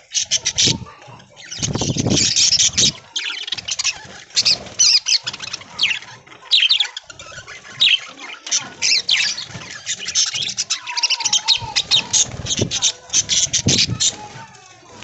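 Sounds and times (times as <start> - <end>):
budgerigars chattering: 0.0 - 14.2.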